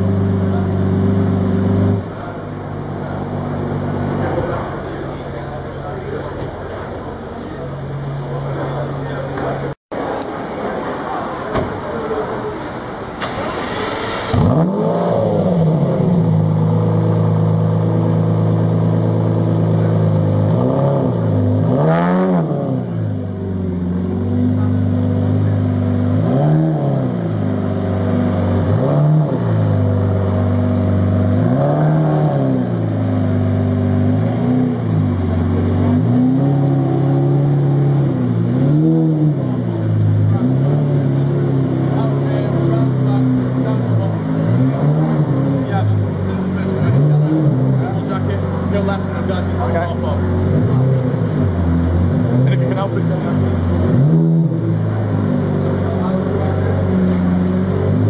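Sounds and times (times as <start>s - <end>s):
car engine idling with throttle blips: 0.0s - 58.0s.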